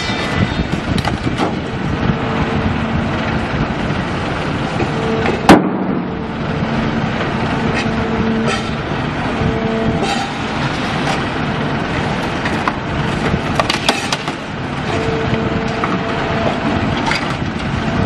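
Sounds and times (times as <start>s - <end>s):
heavy machinery humming: 0.0s - 18.0s.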